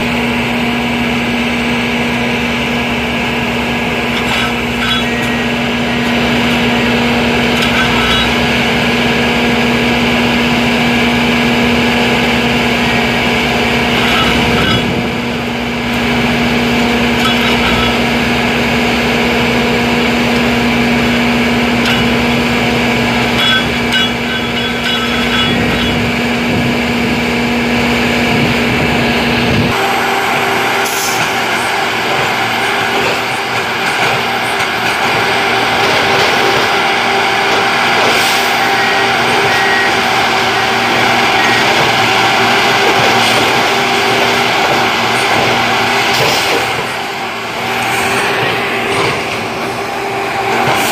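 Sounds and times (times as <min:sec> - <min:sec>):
machine engine humming: 0:00.0 - 0:50.9.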